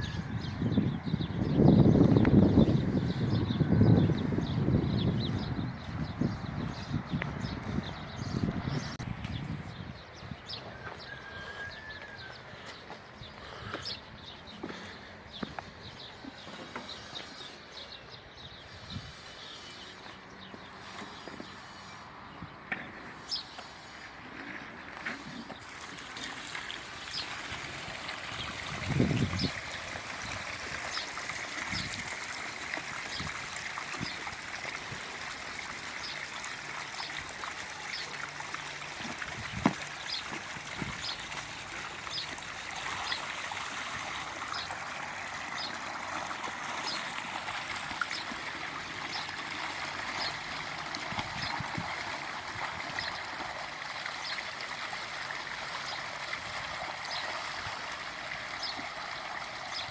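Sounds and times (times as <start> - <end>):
water flowing: 1.3 - 59.9.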